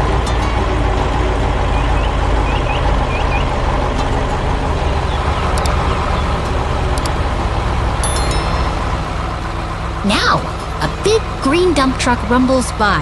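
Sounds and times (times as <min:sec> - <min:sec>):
heavy truck engine rumble: 0:00.0 - 0:13.0.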